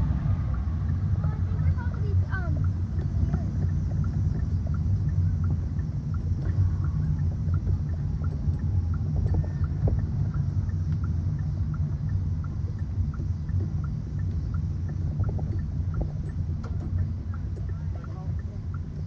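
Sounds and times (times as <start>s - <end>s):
motorcycle engines rumbling: 0.0s - 19.0s
light regular tick: 0.5s - 19.0s.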